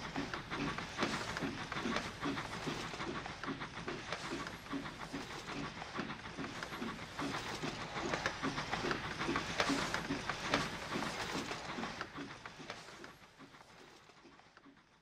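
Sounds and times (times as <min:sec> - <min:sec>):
train clattering on rails: 0:00.0 - 0:13.9.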